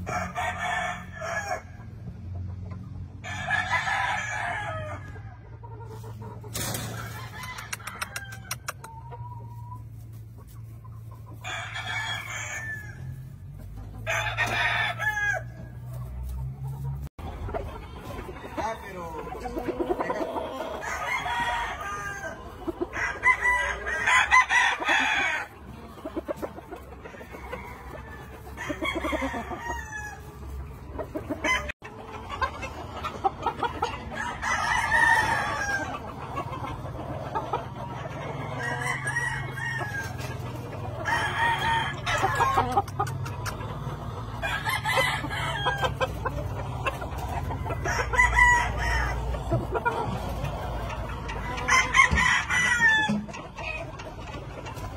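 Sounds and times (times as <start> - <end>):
roosters crowing: 0.0 - 2.1, 3.1 - 54.9
chickens clucking: 0.0 - 54.9.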